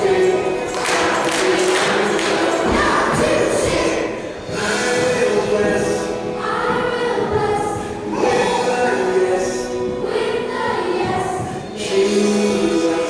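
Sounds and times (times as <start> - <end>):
choir singing slow song: 0.0 - 13.0.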